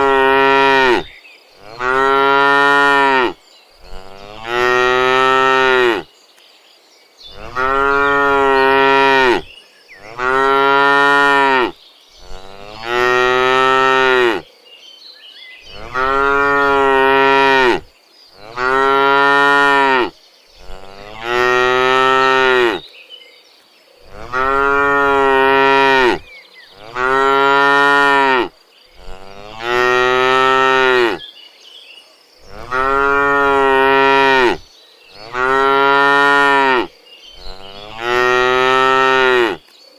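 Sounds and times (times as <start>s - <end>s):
cows mooing: 0.0s - 6.1s, 7.3s - 14.4s, 15.7s - 17.8s, 18.4s - 22.8s, 24.1s - 26.2s, 26.8s - 31.2s, 32.5s - 34.6s, 35.2s - 39.6s.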